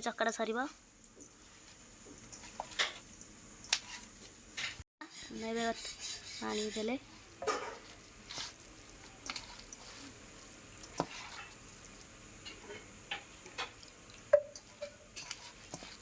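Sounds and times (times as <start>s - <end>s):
food being stirred in a bowl: 1.0s - 16.0s.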